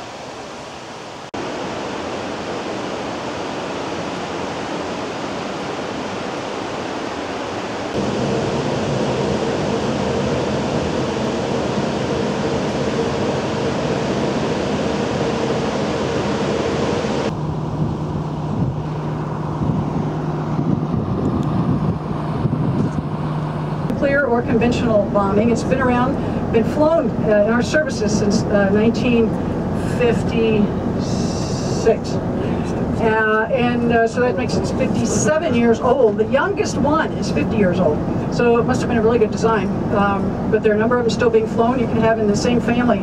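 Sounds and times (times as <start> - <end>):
road and wind noise: 0.0 - 43.0
bus engine hum: 0.1 - 43.0.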